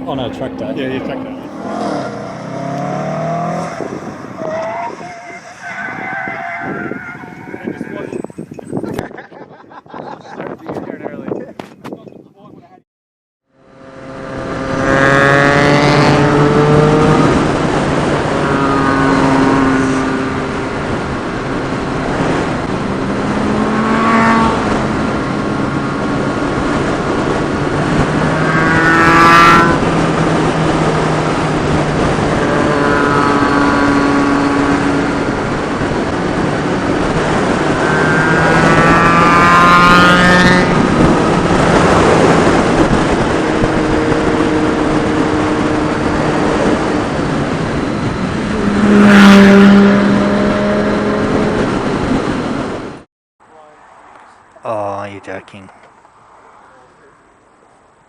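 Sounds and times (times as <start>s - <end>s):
motorcycle engine revving: 0.0s - 8.5s, 13.5s - 53.1s
wind noise: 0.0s - 12.8s, 13.8s - 53.0s.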